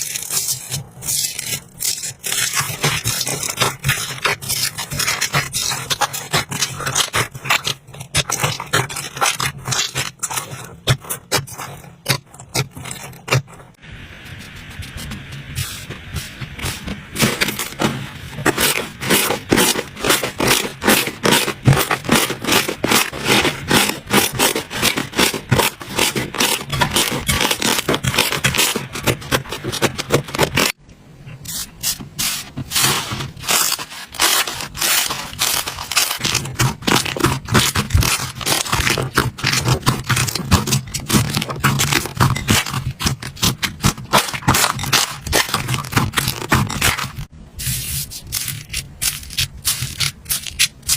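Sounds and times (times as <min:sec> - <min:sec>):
slime clicking and crackling: 0:00.0 - 0:13.8, 0:16.6 - 0:30.8, 0:32.8 - 0:47.3.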